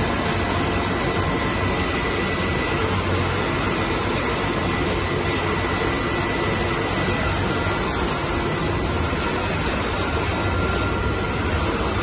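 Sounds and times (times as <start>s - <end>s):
constant low hum: 0.0s - 12.0s
diesel pump engine running: 0.0s - 12.0s.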